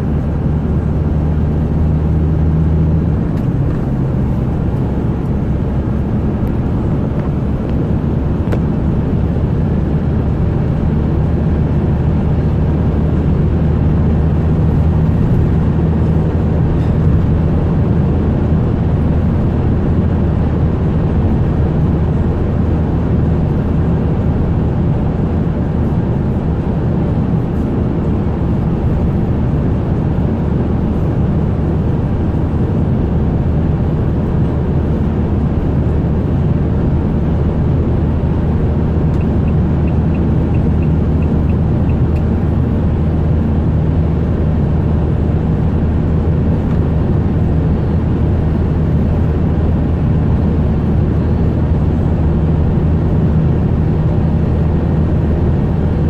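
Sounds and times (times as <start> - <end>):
vehicle engine and tyre noise: 0.0 - 56.0.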